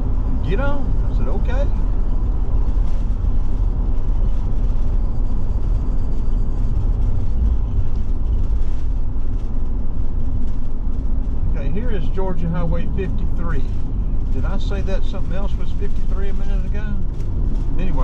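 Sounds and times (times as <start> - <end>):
road and engine rumble inside vehicle: 0.0 - 18.0.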